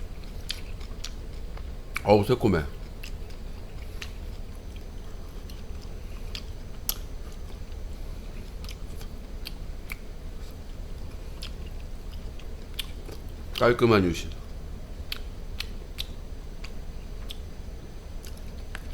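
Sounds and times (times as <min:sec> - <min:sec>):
low hum: 0:00.0 - 0:18.9
person chewing food: 0:00.1 - 0:02.0, 0:02.8 - 0:13.6, 0:14.3 - 0:17.5, 0:18.2 - 0:18.9.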